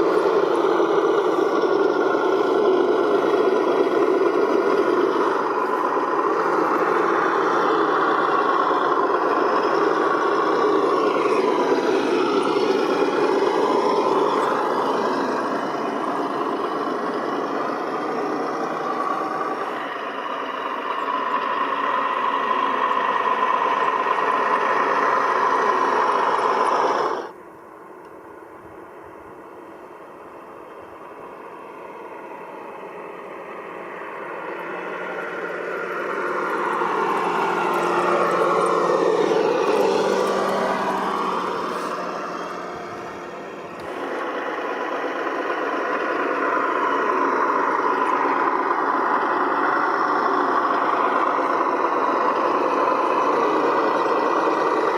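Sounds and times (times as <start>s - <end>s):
recorded truck engine sound: 0.0s - 54.9s.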